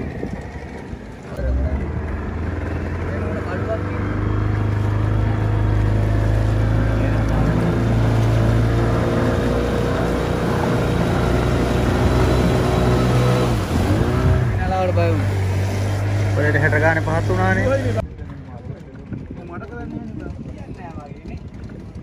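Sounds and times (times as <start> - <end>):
boat engine droning: 0.0 - 19.6.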